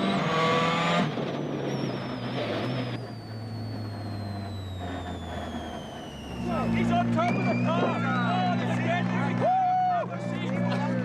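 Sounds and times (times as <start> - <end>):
high transmission whine: 0.0 - 11.0
rally car engine slowing: 0.0 - 11.0.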